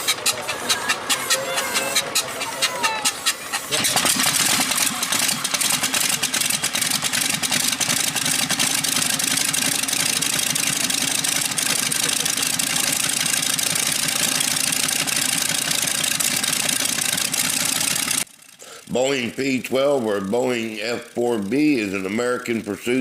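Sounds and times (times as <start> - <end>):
piston aircraft engine running: 0.0 - 23.0.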